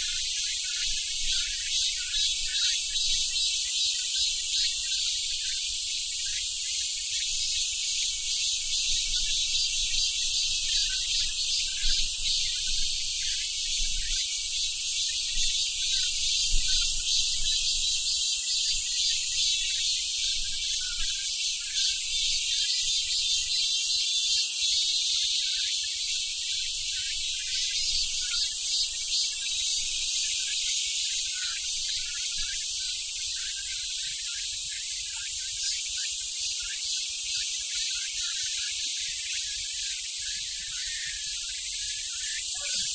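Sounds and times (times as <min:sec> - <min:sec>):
cicadas singing: 0:00.0 - 0:42.9.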